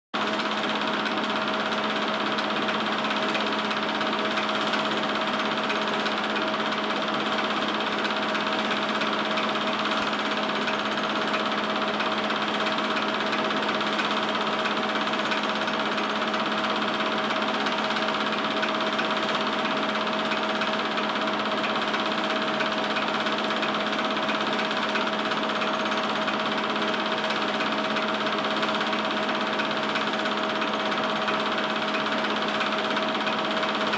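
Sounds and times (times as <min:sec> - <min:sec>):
fast mechanical clatter: 0:00.2 - 0:33.9
projector motor whirr: 0:00.2 - 0:33.9.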